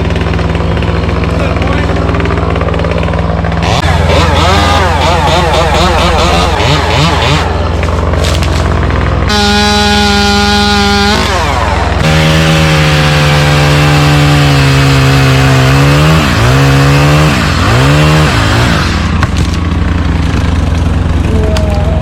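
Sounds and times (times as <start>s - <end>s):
chainsaw cutting wood: 0.0s - 21.3s
low engine drone: 0.0s - 22.0s.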